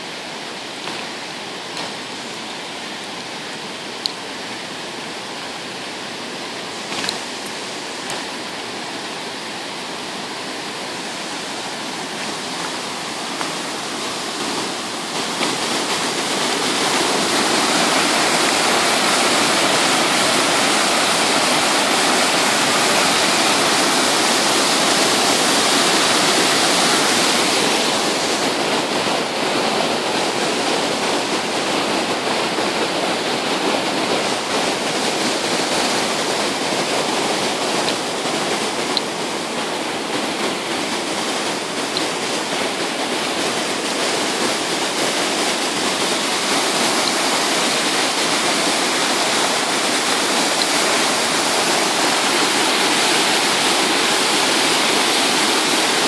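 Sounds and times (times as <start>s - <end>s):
river rushing over rocky rapids: 0.0s - 56.0s.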